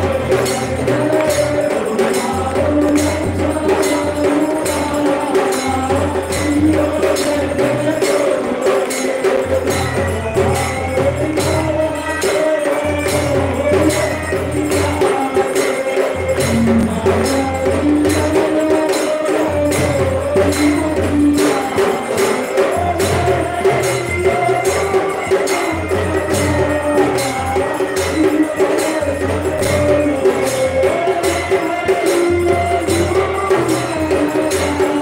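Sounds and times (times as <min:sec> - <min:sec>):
metal hand percussion jingling: 0:00.0 - 0:35.0.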